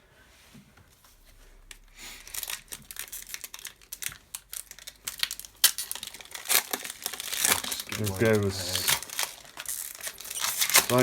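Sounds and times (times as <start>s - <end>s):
foil wrapper crinkling: 1.6s - 11.0s.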